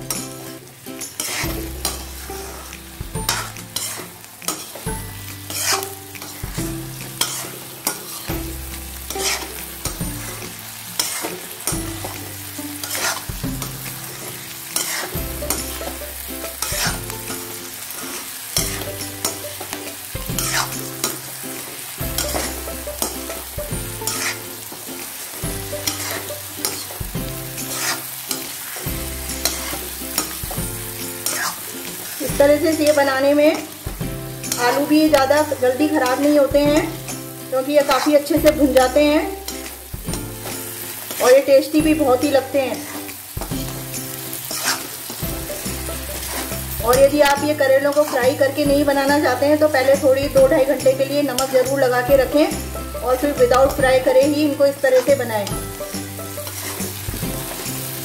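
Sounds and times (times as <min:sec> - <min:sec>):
spatula scraping a frying pan: 0:00.0 - 0:37.1, 0:37.7 - 0:52.7, 0:53.6 - 0:58.0
oil sizzling: 0:00.0 - 0:58.0.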